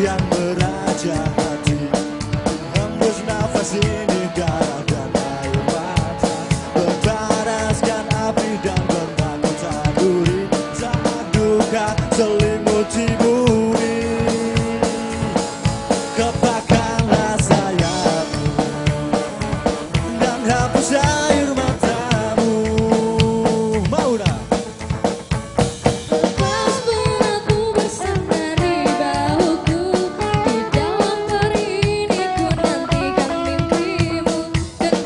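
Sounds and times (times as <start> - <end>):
drum kit beat: 0.0 - 35.0
electric guitars: 0.0 - 35.0.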